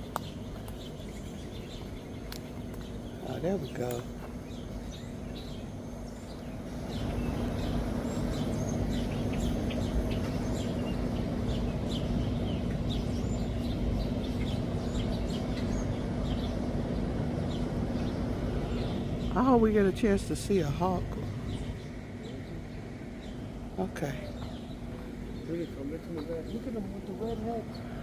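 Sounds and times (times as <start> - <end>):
low hum and rumble: 0.0 - 28.0
small songbirds chirping: 0.0 - 28.0.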